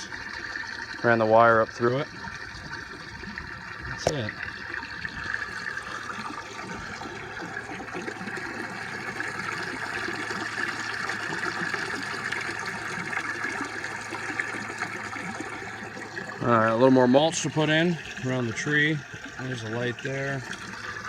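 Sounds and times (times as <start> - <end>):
water splashing into a pond: 0.0 - 21.0.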